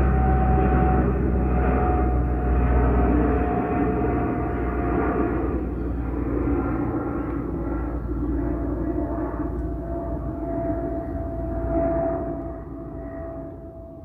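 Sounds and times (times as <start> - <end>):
turboprop airliner engine drone: 0.0 - 14.0.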